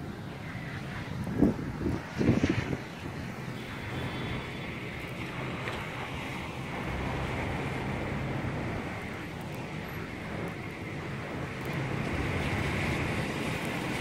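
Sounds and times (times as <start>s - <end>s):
wind blowing: 0.0s - 14.0s
wind buffeting microphone: 0.0s - 14.0s.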